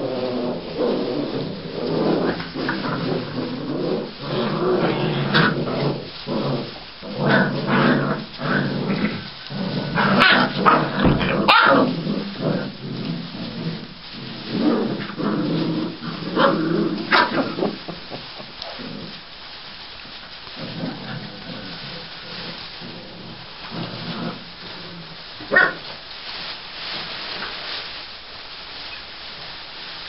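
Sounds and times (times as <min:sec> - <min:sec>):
puppies growling and yipping: 0:00.0 - 0:19.3, 0:20.4 - 0:25.9.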